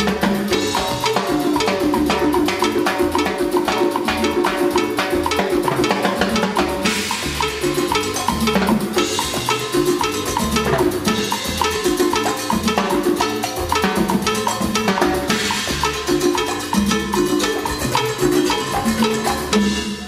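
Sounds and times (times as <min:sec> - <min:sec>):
congas played by hand: 0:00.0 - 0:20.0
timbale accents: 0:00.0 - 0:20.0.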